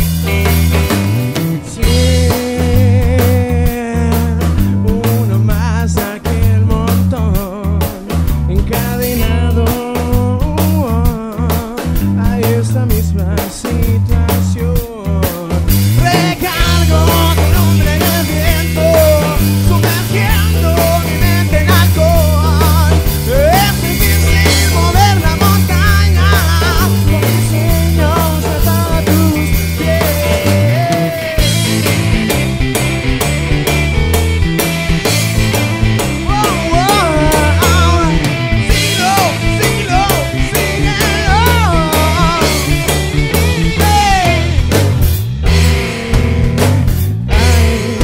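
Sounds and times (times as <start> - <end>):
rock band playing live: 0.0 - 48.0
person singing: 1.3 - 32.2, 35.0 - 44.9, 45.5 - 48.0.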